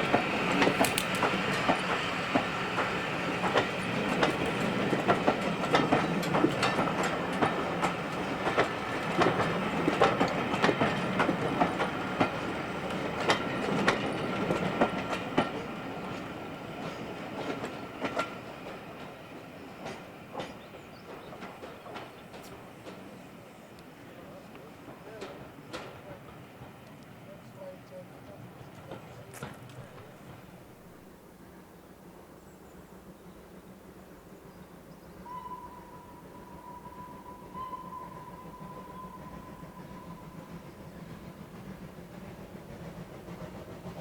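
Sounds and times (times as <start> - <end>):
train wheels clattering over joints: 0.0 - 27.6, 28.2 - 31.0, 37.3 - 44.0.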